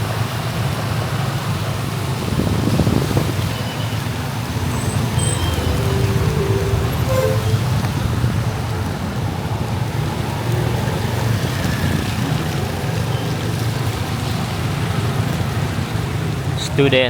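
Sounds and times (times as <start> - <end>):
motorbike road noise on wet road: 0.0 - 17.0.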